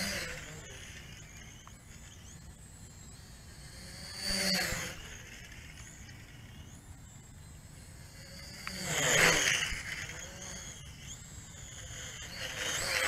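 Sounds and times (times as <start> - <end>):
toy drone propellers whining: 0.0 - 13.0.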